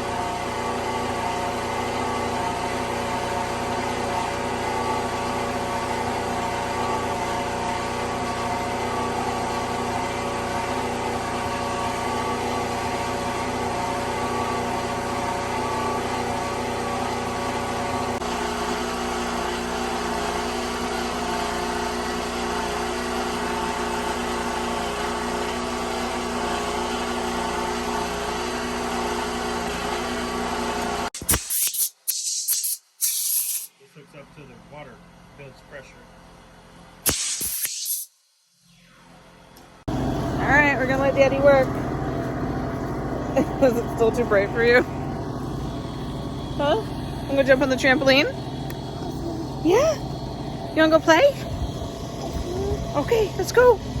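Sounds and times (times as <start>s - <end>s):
generator engine running: 0.0s - 31.2s, 33.8s - 37.0s, 39.0s - 54.0s.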